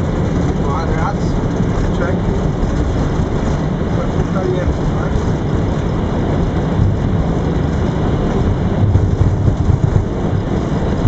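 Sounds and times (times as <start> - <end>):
jet engines rumbling: 0.0 - 11.0
wheels running on runway: 0.0 - 11.0.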